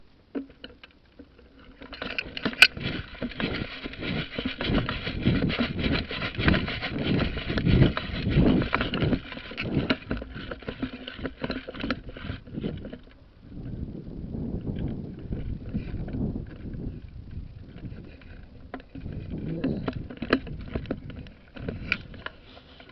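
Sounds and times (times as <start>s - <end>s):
rustling and knocking movement: 0.0s - 13.8s, 14.6s - 22.9s.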